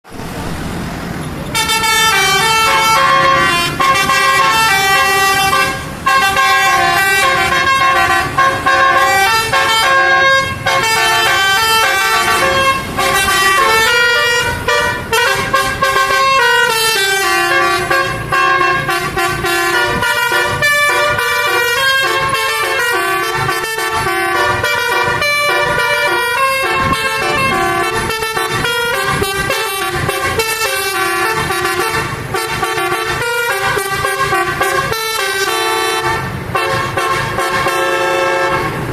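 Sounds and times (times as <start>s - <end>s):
bus horn playing a tune: 1.5s - 38.9s.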